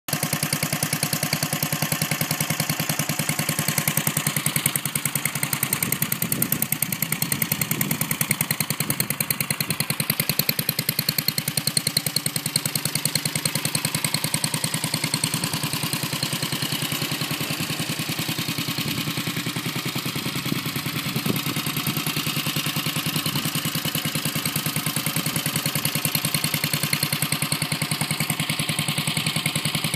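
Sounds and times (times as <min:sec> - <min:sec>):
small engine idling: 0:00.1 - 0:29.9.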